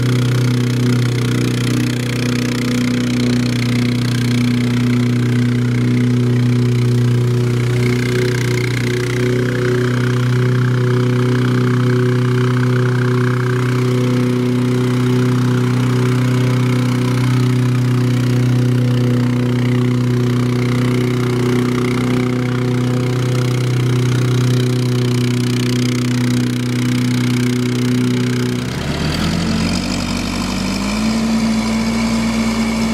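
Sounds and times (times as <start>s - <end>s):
engine drone with low hum: 0.0s - 32.9s.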